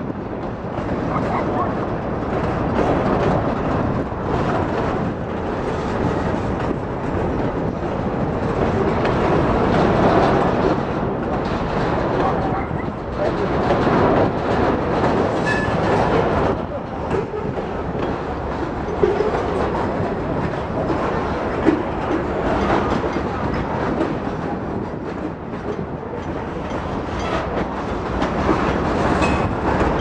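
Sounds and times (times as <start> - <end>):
freight train cars rolling past: 0.0 - 30.0.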